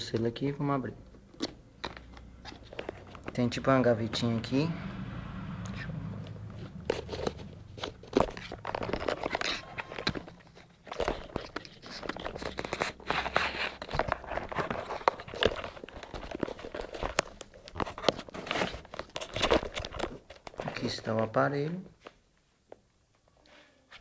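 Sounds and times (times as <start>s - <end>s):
cardboard box rustling and scraping: 1.3s - 21.0s.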